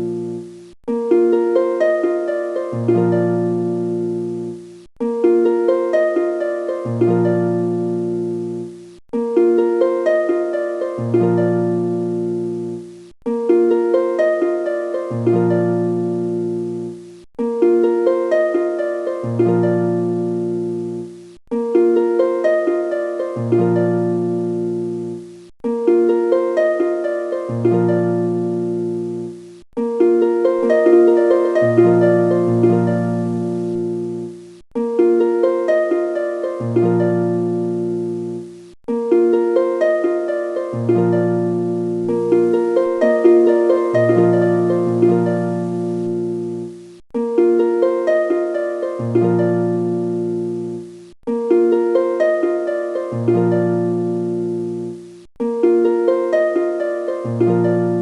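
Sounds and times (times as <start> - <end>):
looping melodic phrase: 0.0 - 58.0.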